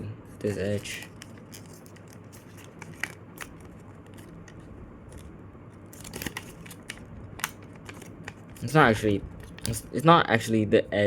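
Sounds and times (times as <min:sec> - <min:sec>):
paper being folded: 0:00.3 - 0:09.6
paper crinkling: 0:00.3 - 0:09.8.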